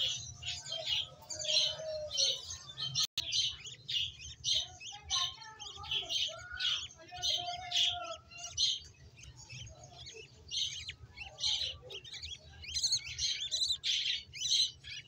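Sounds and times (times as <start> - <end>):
bird chicks chirping: 0.0 - 15.0.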